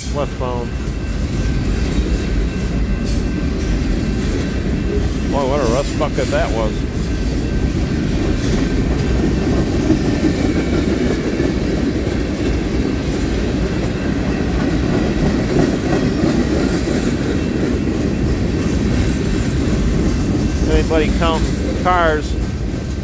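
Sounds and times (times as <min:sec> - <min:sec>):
steel wheels on rails: 0:00.0 - 0:23.0.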